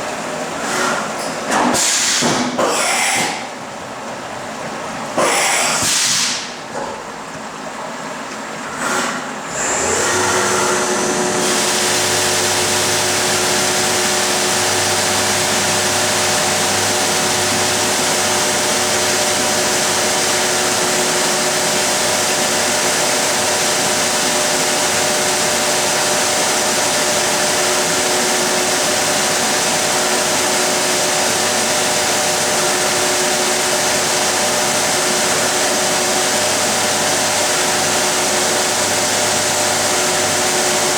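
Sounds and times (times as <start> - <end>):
machining centre hum and hiss: 0.0 - 40.9.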